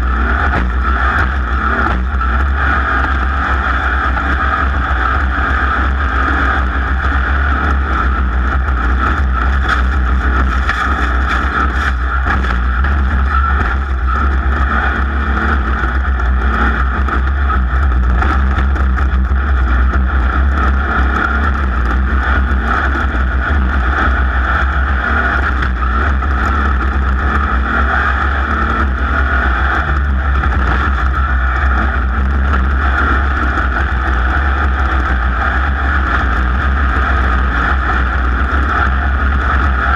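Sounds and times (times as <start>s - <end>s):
driving noise: 0.0s - 39.9s
race vehicle engine drone: 0.0s - 39.9s.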